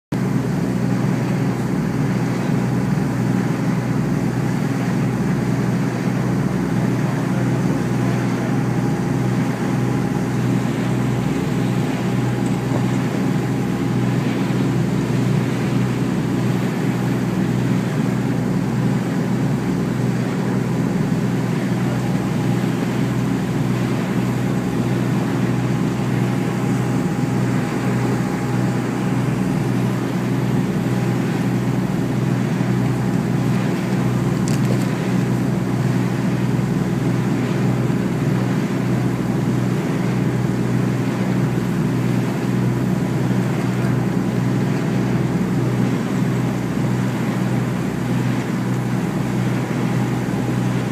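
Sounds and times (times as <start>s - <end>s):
ship engine drone: 0.1s - 50.9s.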